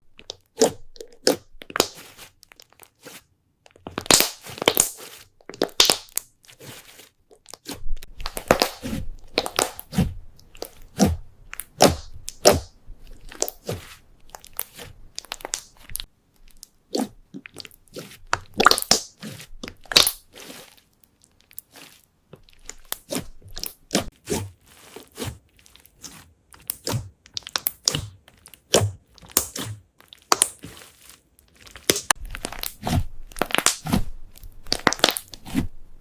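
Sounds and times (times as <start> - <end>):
slime crackling and popping: 0.1 - 3.1, 3.7 - 35.6.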